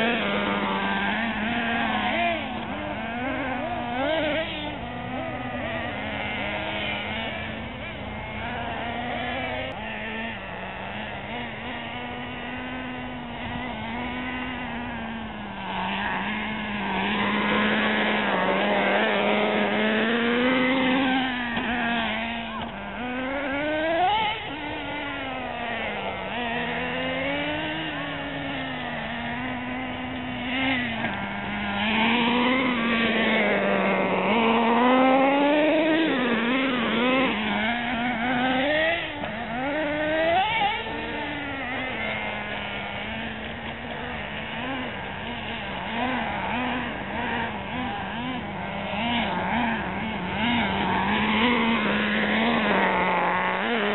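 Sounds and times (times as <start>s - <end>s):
model car motors buzzing: 0.0s - 53.9s.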